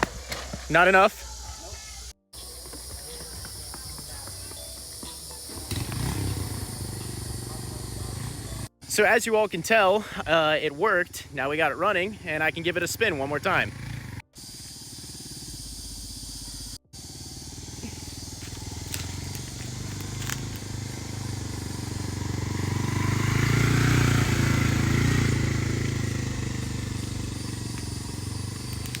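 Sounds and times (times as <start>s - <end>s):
motorcycle engine running: 0.0s - 8.8s, 9.9s - 29.0s.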